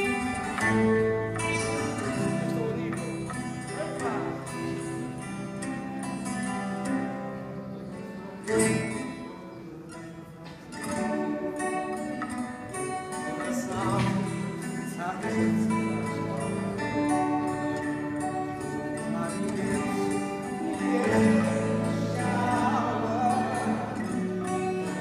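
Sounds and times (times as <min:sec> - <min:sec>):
plucked acoustic guitar: 0:00.0 - 0:25.0.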